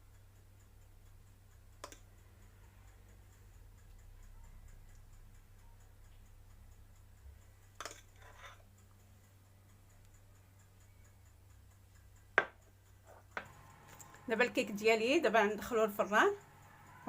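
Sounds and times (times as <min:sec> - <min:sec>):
faint even ticking: 0:00.0 - 0:17.0.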